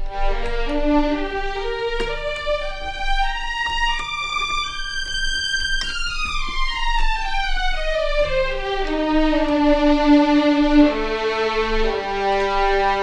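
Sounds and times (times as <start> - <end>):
violin section playing: 0.0 - 5.2, 5.8 - 13.0.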